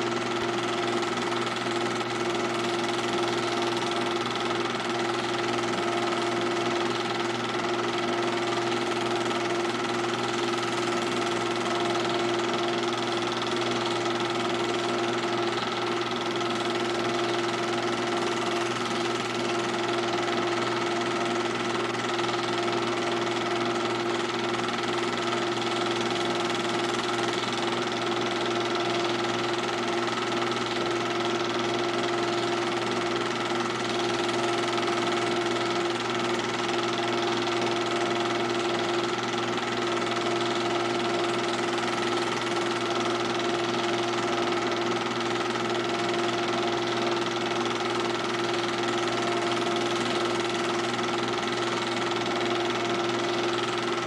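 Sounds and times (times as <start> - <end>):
film projector whirring and clatter: 0.0 - 54.0.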